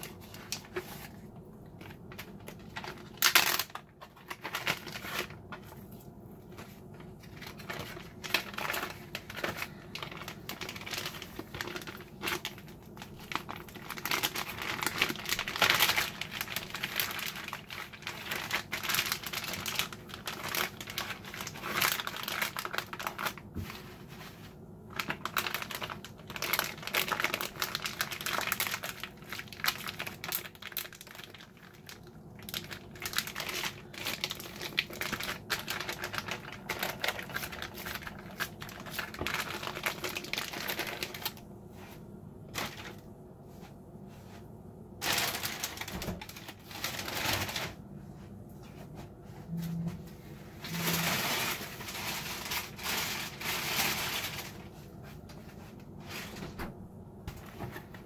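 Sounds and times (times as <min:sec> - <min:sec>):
plastic bag crinkling: 0:00.0 - 0:41.4, 0:42.4 - 0:43.1, 0:45.0 - 0:47.9, 0:50.6 - 0:56.5.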